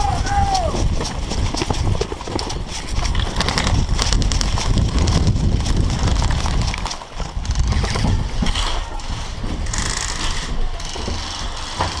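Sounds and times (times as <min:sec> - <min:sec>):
running footsteps on dirt: 0:00.0 - 0:12.0
wind rumbling on microphone: 0:00.0 - 0:12.0.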